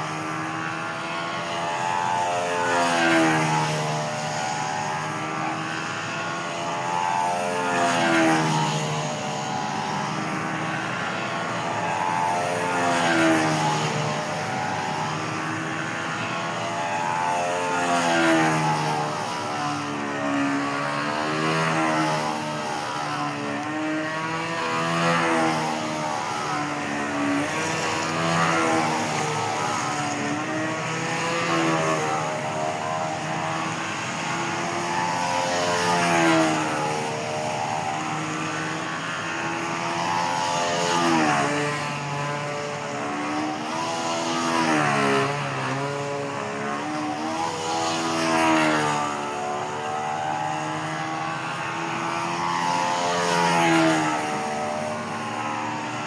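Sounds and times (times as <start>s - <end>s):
model plane engine droning: 0.0s - 56.0s.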